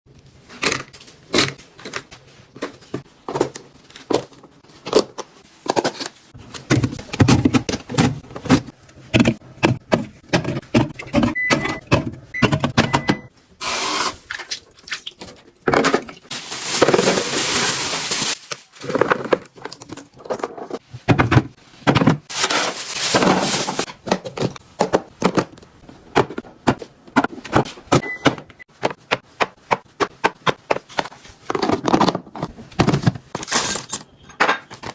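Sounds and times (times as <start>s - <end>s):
plastic boxes clicking and knocking: 0.5s - 13.3s, 18.8s - 22.4s, 23.0s - 34.9s.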